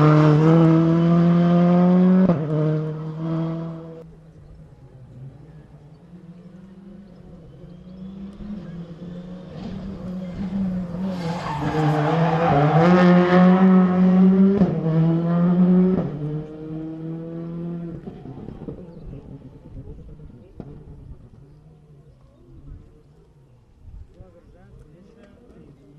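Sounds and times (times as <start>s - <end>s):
rally car engine at full throttle: 0.0s - 21.7s.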